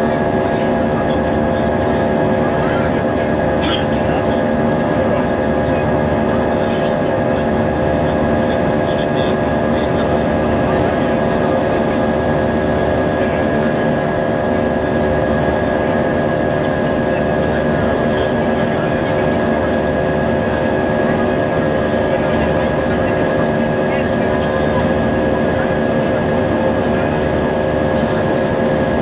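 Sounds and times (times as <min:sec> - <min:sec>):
jet engine drone: 0:00.0 - 0:29.0.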